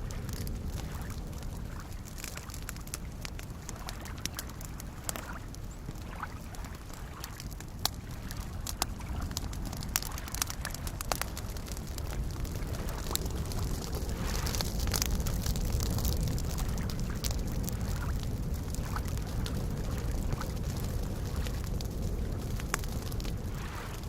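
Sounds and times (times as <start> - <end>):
small waves lapping at shore: 0.0 - 17.2, 17.8 - 21.6, 22.6 - 24.0
campfire crackling and popping: 0.0 - 24.0.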